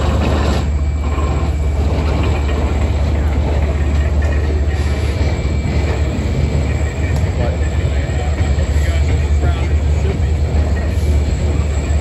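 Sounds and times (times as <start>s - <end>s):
turntable bridge mechanical rumble: 0.0s - 12.0s.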